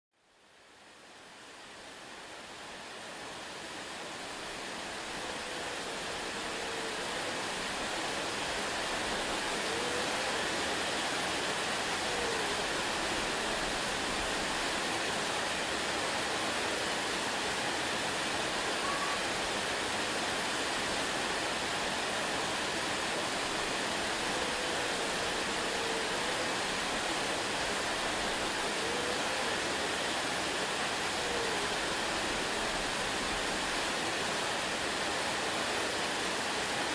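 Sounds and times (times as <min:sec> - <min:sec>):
waterfall rushing: 0:01.4 - 0:36.9.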